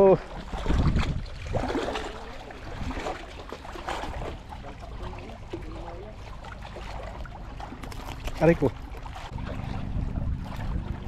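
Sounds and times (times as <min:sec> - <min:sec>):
water lapping against rocks: 0:00.0 - 0:11.0.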